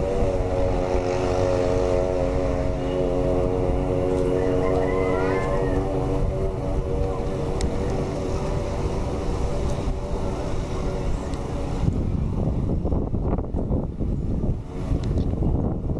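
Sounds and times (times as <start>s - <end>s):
airplane engine hum: 0.0s - 15.9s
low rumble: 0.0s - 15.9s.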